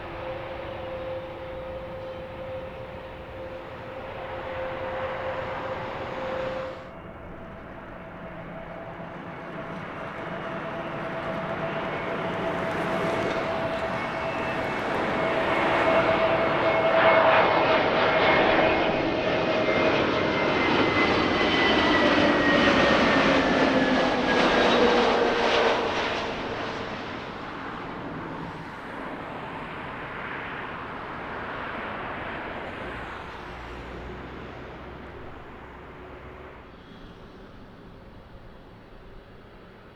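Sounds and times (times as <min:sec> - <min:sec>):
airliner passing by: 0:00.0 - 0:39.9.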